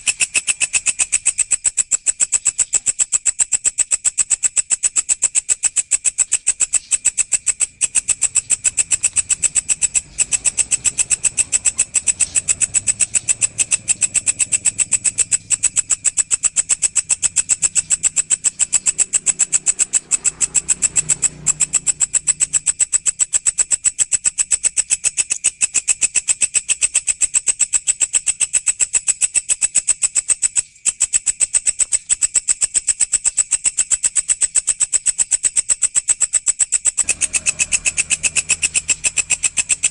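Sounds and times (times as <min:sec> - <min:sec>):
grasshopper stridulating: 0:00.0 - 0:39.9.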